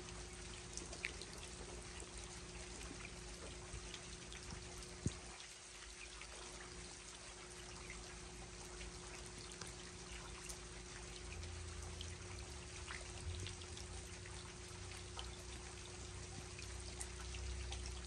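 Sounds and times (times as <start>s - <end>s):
faint steady hum: 0.0s - 18.0s
steady rain: 0.0s - 18.0s
water trickling: 0.0s - 18.0s.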